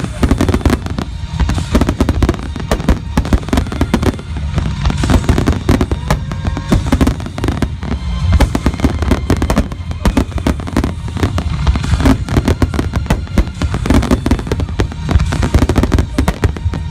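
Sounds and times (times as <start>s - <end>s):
fireworks bursting in rapid barrage: 0.0s - 16.9s.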